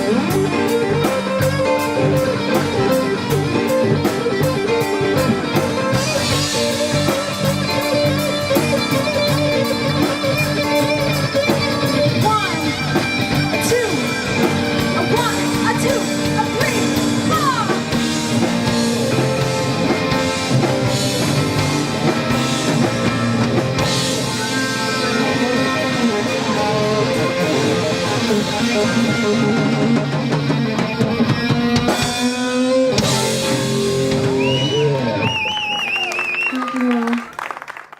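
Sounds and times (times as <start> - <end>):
drum kit: 0.0 - 36.0
live rock band playing: 0.0 - 37.4
electric guitar: 0.0 - 37.7.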